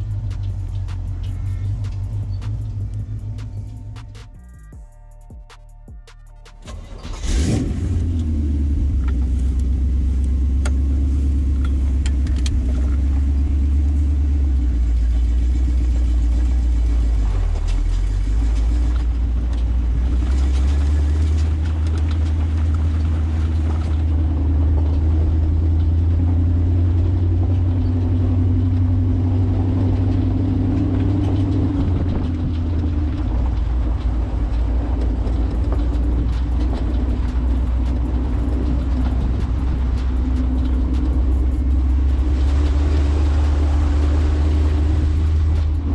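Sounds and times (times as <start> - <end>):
car engine rumbling while driving: 0.0 - 45.9.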